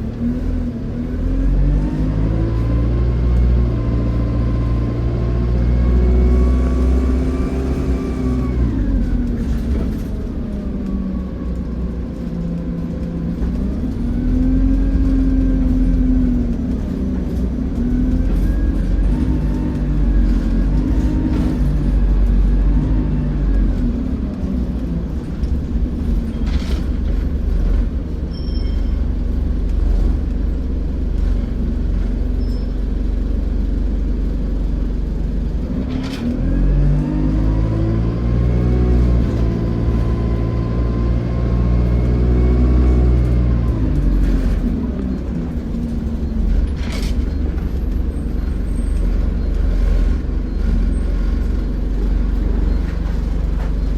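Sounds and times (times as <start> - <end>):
bus diesel engine: 0.0 - 53.9.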